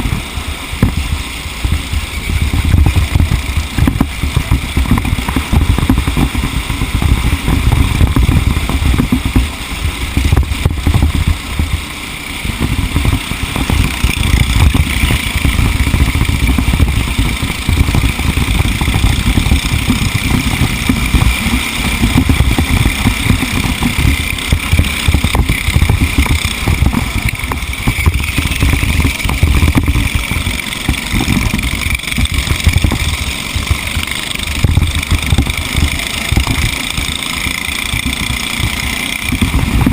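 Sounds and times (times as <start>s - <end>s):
racing engine running hard: 0.0s - 39.9s
wind buffeting microphone: 0.0s - 39.9s.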